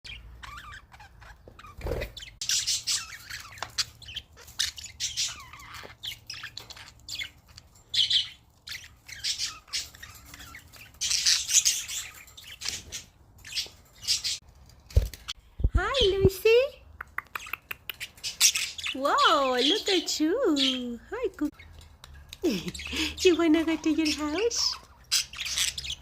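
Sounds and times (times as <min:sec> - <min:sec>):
budgies chirping and squawking: 0:00.0 - 0:16.6, 0:17.4 - 0:26.0.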